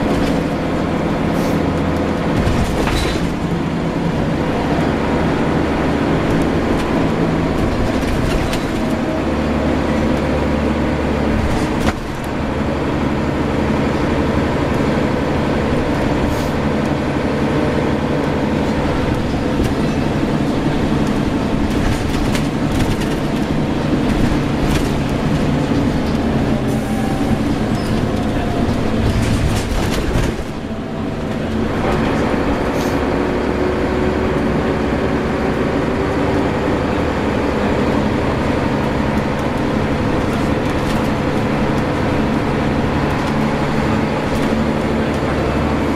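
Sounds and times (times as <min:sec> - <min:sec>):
bus engine running: 0:00.0 - 0:45.9
road noise: 0:00.0 - 0:45.9.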